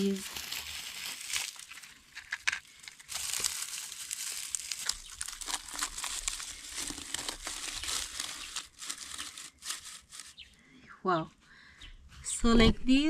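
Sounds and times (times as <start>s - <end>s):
dry grass crackling: 0.0s - 10.6s.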